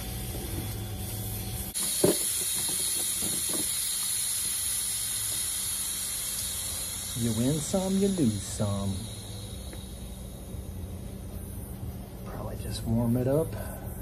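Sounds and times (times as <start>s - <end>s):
pressurized gas hissing: 0.0s - 14.0s.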